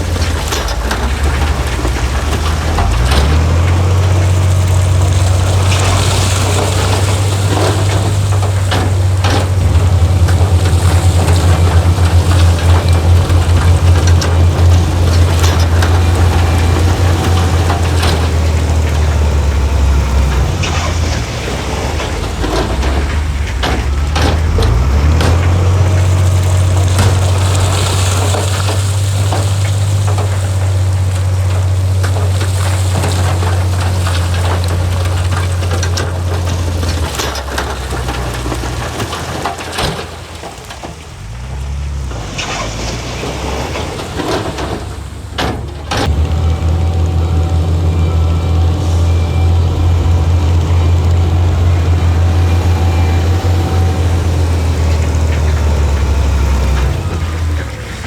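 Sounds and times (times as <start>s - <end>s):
heavy diesel engine running: 0.0s - 58.0s
metallic clanks and knocks: 0.0s - 58.0s.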